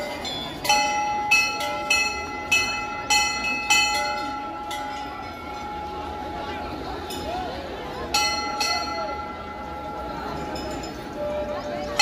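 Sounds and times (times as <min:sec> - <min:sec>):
metal bell ringing: 0:00.0 - 0:07.4, 0:08.0 - 0:12.0
crowd murmuring: 0:00.0 - 0:12.0.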